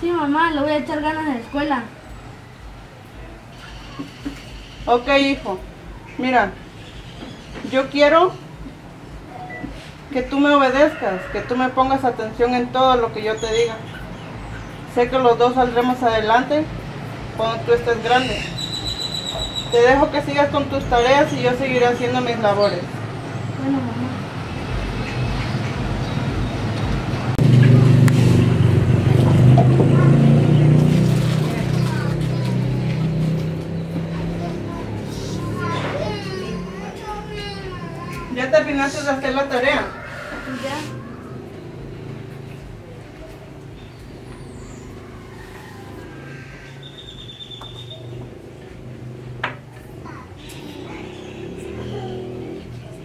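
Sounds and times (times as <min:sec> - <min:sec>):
motor vehicle engine humming: 0:00.0 - 0:53.0.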